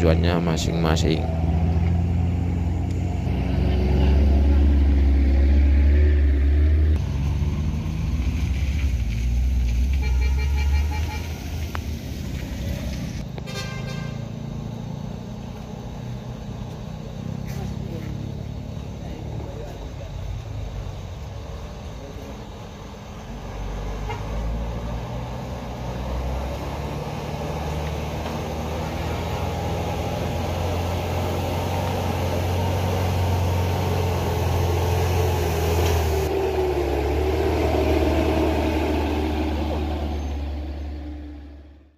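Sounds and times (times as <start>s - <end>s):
dump truck diesel engine climbing: 0.0s - 41.9s.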